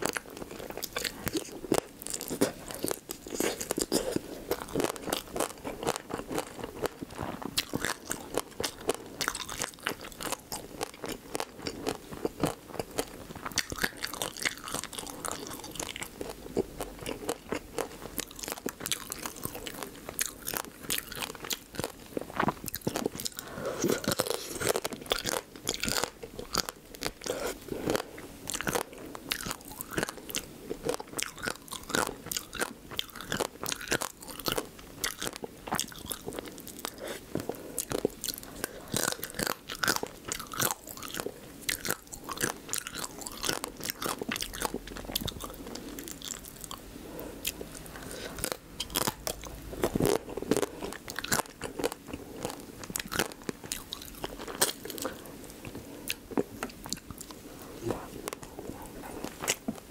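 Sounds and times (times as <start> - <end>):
crunching and wet chewing: 0.0 - 59.9.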